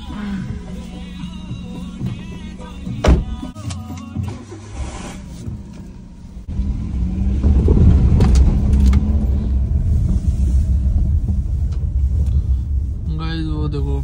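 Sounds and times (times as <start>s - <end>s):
car engine rumbling: 0.0s - 14.0s
road noise: 0.0s - 14.0s.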